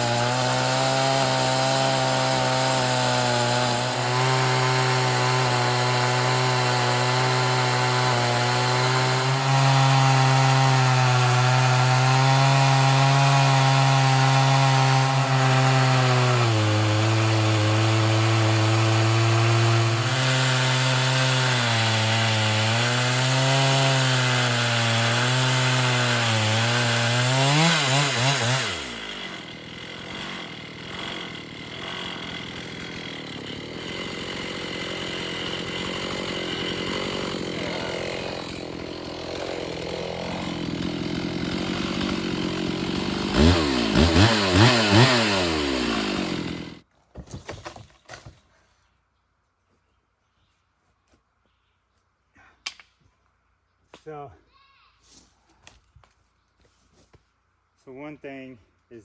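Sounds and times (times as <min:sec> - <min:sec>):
chainsaw cutting a log: 0:00.0 - 0:48.3.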